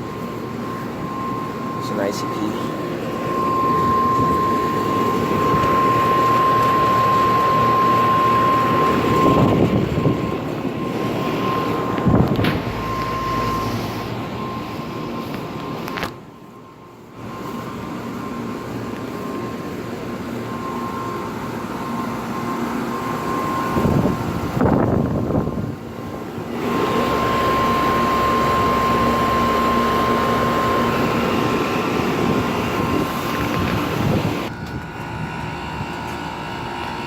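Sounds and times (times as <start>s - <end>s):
air conditioner units humming: 0.0s - 37.0s.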